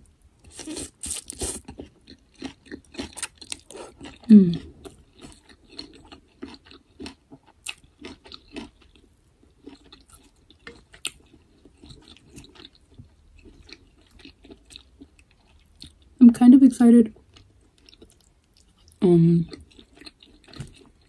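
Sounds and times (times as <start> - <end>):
person chewing food: 0.1 - 16.2, 17.2 - 21.0.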